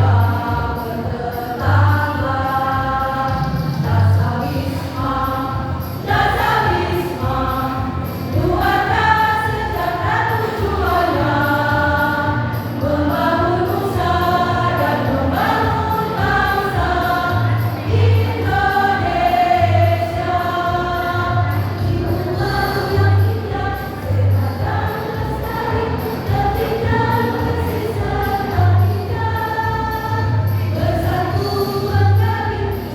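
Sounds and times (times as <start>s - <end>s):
choir singing: 0.0s - 32.9s.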